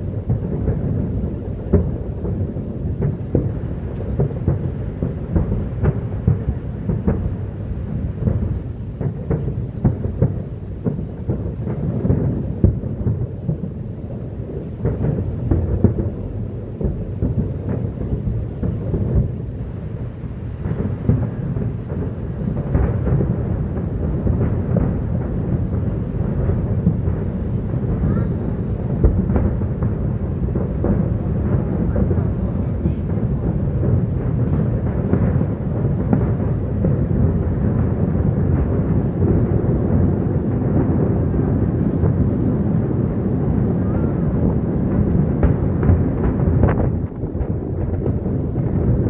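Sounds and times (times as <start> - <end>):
fireworks booming: 0.0 - 49.0
sharp fireworks bangs: 0.0 - 49.0.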